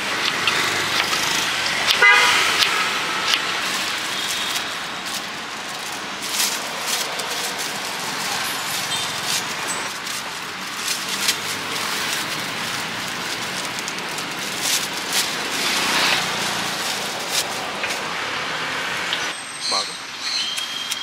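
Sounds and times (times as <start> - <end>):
plastic bags crinkling: 0.0 - 18.5.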